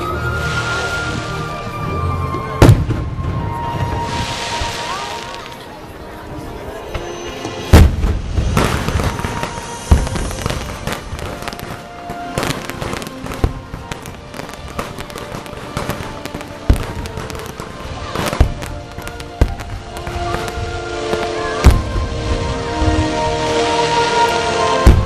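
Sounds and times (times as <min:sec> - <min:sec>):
firework bangs: 0:00.0 - 0:05.8, 0:07.0 - 0:25.0
background music: 0:00.0 - 0:25.0
firework crackling: 0:00.0 - 0:25.0.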